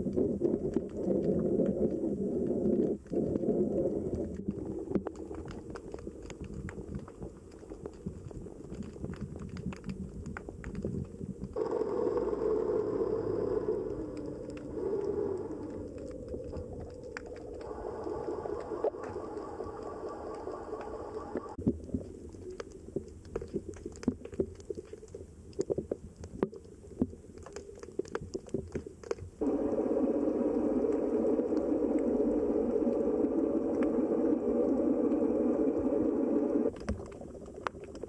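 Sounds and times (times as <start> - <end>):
faint clicks and crackles: 0.0 - 38.0
underwater rumble of moving water: 0.0 - 38.0.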